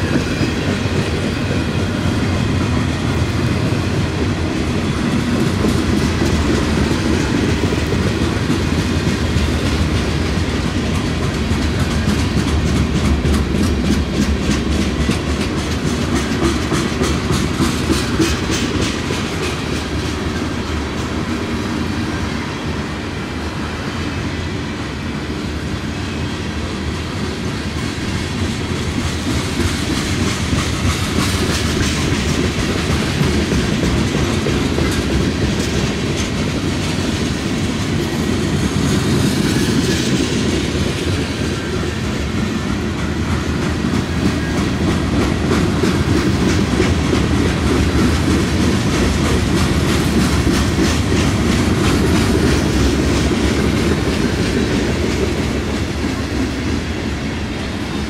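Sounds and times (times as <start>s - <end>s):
wheels clicking over rail joints: 0.0s - 21.5s, 27.8s - 57.1s
freight train rumbling past: 0.0s - 58.0s.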